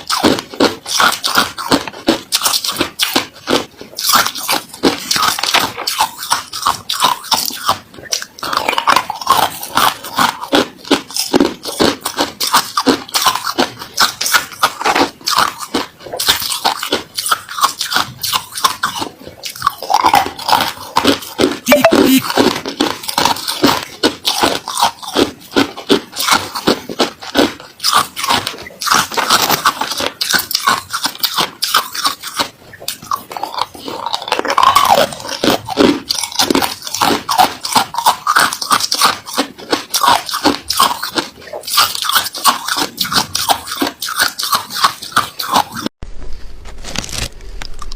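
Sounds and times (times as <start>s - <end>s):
crunching ice while chewing: 0.0s - 46.0s, 46.8s - 47.9s.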